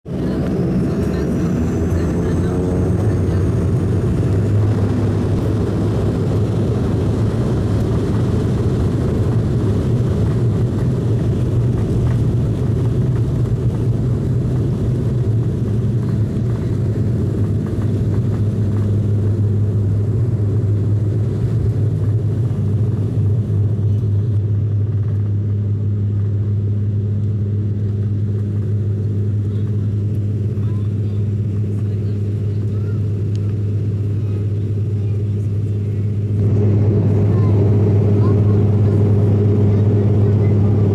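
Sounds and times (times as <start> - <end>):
deep propeller drone: 0.0 - 40.9
engine and airflow rumble: 0.0 - 40.9.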